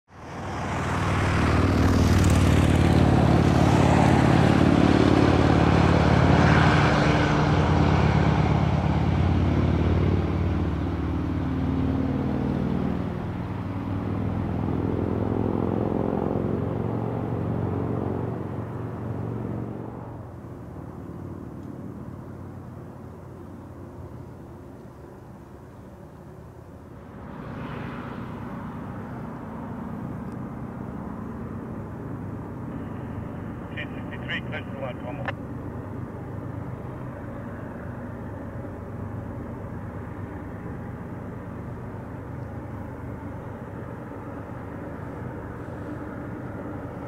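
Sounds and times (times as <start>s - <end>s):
diesel locomotive engine drone: 0.1s - 47.0s.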